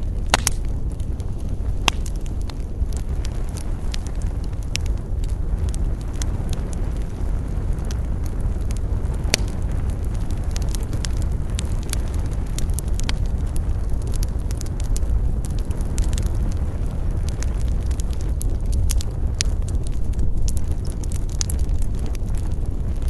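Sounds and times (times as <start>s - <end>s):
campfire crackling and popping: 0.0s - 23.0s
fire low rumble: 0.0s - 23.0s.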